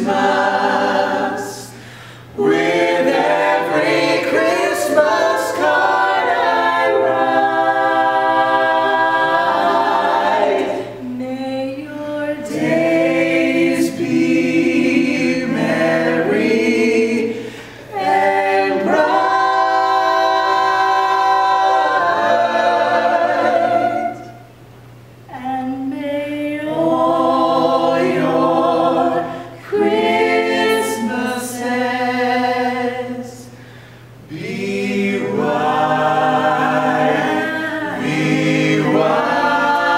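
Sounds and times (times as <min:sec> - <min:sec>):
choir singing a cappella: 0:00.0 - 0:24.5, 0:25.3 - 0:39.9.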